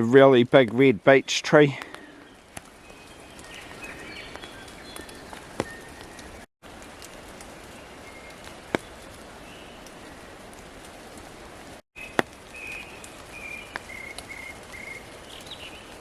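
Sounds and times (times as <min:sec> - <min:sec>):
light rain in forest: 0:00.0 - 0:16.0.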